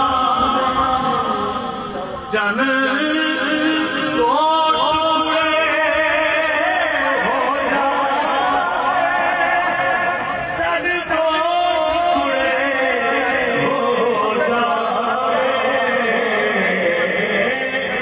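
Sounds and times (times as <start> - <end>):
man singing unaccompanied: 2.3 - 9.9, 10.5 - 18.0.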